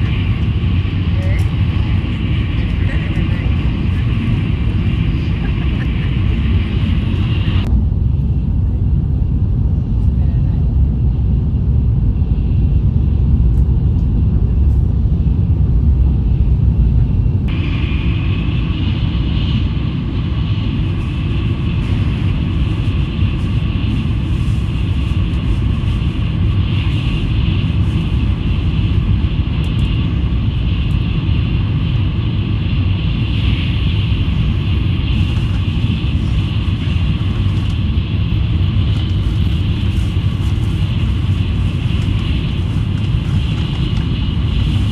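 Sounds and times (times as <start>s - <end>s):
high-speed train rumble: 0.0s - 44.9s.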